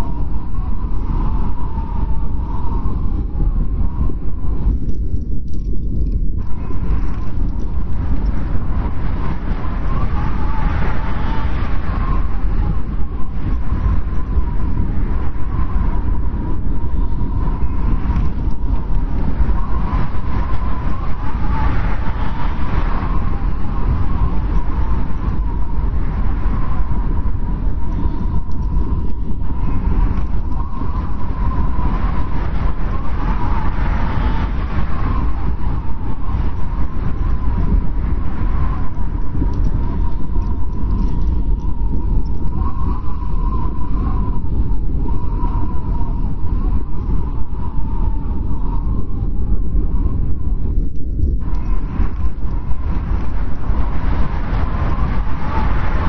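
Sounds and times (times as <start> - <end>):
wind rumbling: 0.0 - 56.0
wind whistling howl: 0.0 - 56.0.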